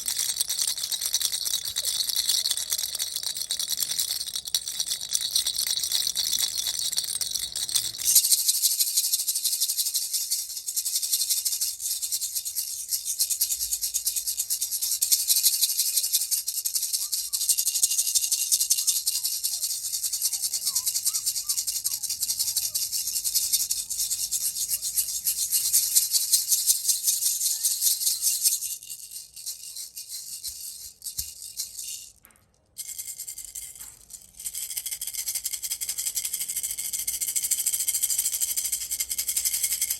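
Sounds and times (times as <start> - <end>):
toy rattle shaken: 0.0 - 39.9.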